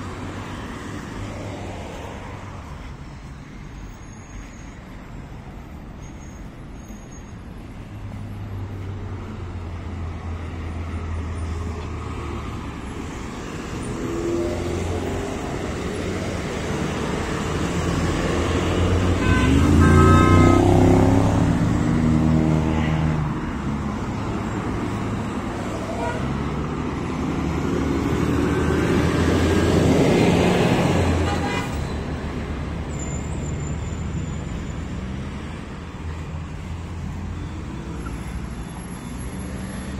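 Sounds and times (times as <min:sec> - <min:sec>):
traffic drone: 0:00.0 - 0:39.9
vehicles passing: 0:00.0 - 0:39.9.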